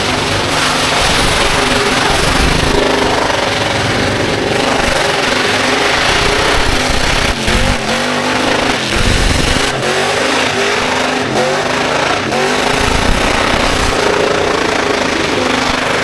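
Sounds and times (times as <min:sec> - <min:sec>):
car engine revving: 0:00.0 - 0:16.0
tyres spinning: 0:00.0 - 0:16.0.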